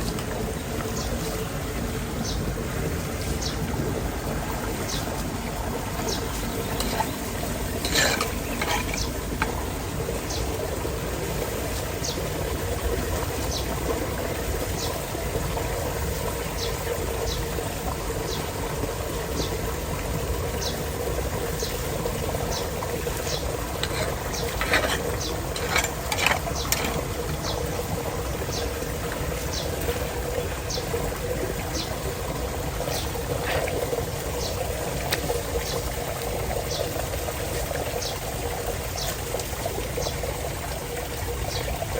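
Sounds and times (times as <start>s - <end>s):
water gurgling down drain: 0.0s - 41.9s
water splashes: 0.0s - 41.9s.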